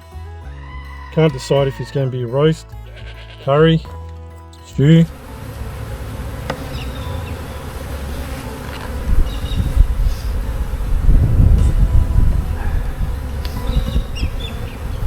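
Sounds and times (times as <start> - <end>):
honeybees buzzing: 0.8 - 15.0.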